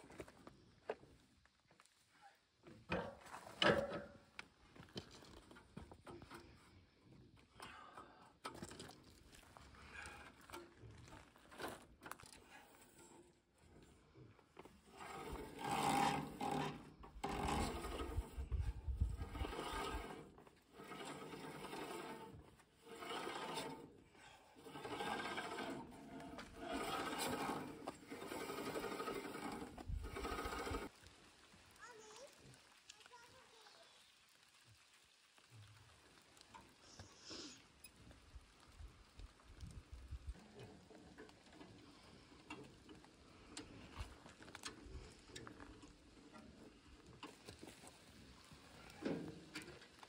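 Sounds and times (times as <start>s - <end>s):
sawmill wheels turned by hand: 2.6s - 33.7s, 40.4s - 50.0s.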